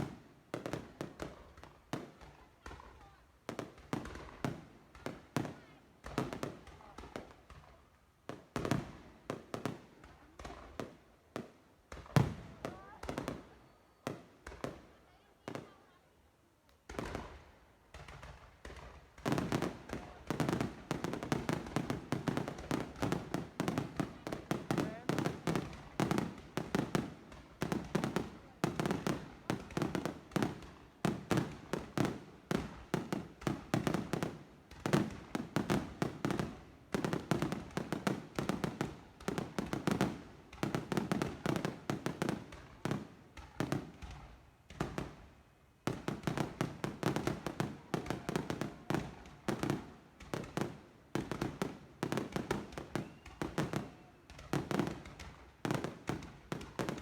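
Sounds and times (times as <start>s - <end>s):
fireworks bangs and booms: 0.0s - 16.2s, 16.8s - 57.0s.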